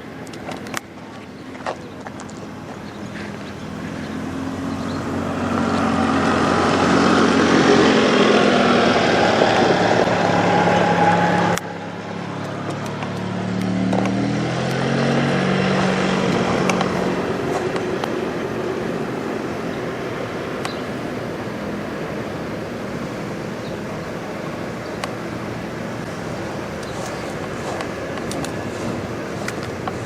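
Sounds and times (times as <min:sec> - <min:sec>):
diesel truck engines passing: 0:00.0 - 0:30.0
truck engine accelerating: 0:00.0 - 0:30.0.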